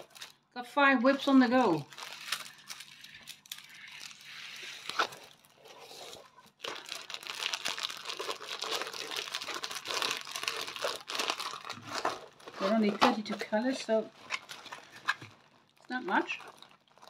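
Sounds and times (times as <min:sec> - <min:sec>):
packaging crinkling: 0:00.0 - 0:00.4, 0:01.4 - 0:17.0.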